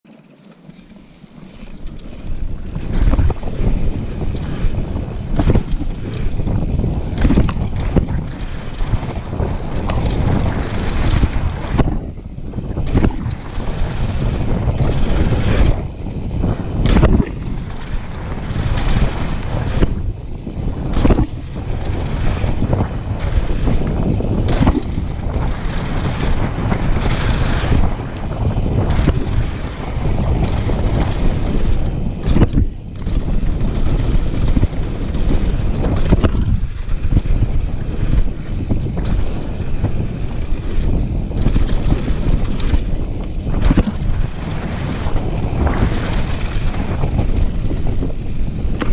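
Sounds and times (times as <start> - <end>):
tyres rumbling on gravel trail: 0.0 - 48.9
bike knocks and rattles: 0.1 - 48.9
wind rushing over microphone: 1.2 - 48.9.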